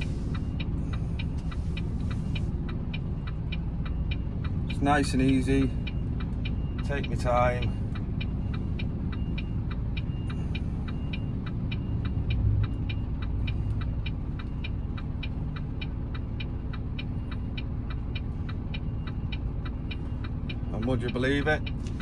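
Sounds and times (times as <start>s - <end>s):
diesel engine running low: 0.0s - 22.0s.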